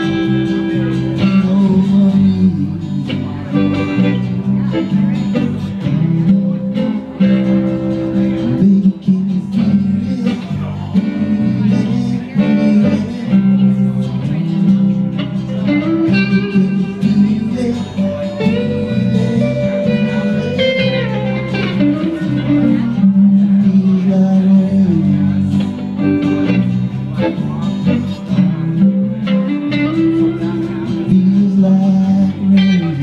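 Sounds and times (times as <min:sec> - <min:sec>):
bending electric guitar notes: 0:00.0 - 0:33.0
live band playing blues-rock: 0:00.0 - 0:33.0.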